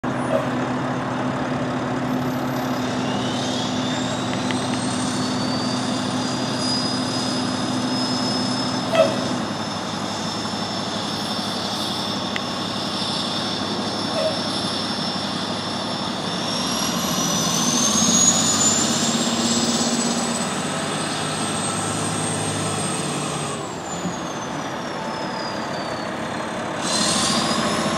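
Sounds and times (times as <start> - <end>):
diesel engine idling hum: 0.0 - 27.9
high whine: 2.1 - 27.9.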